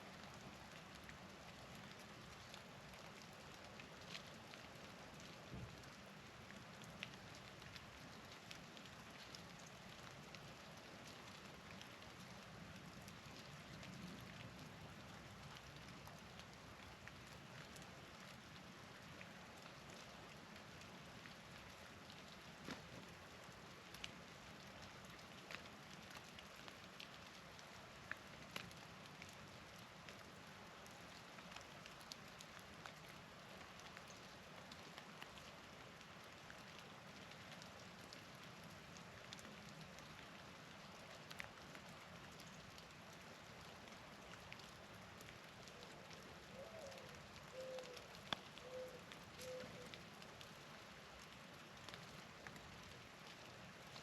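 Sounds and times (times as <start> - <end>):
hiss of falling precipitation: 0.0 - 54.0.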